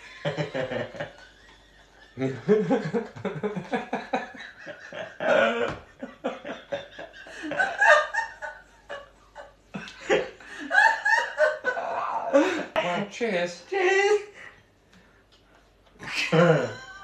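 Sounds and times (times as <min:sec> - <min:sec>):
people laughing: 0:00.0 - 0:12.8, 0:16.0 - 0:17.0.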